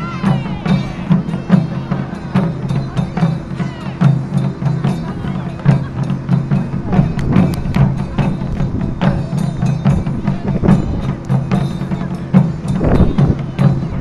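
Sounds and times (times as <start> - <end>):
drum strikes: 0.0 - 14.0.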